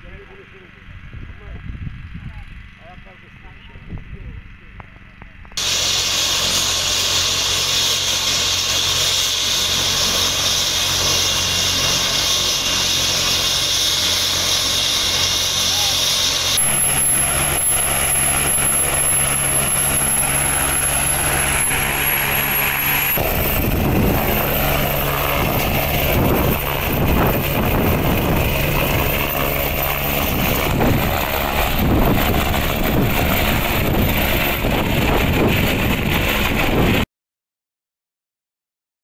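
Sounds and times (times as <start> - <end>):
helicopter engine drone and whine: 0.0 - 37.0
helicopter rotor chop: 5.0 - 37.0.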